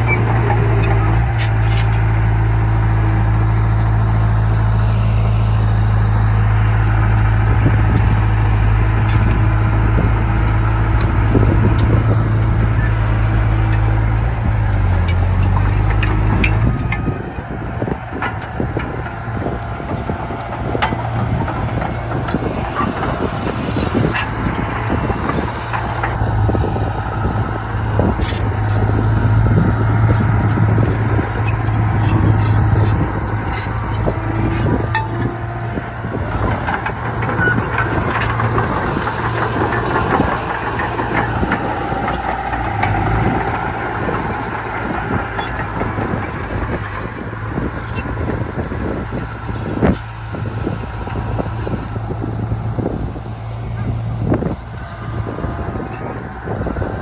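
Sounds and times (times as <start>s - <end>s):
metallic clanks and squeaks: 0.0s - 4.8s, 5.8s - 53.0s
diesel machinery engine drone: 0.0s - 57.0s.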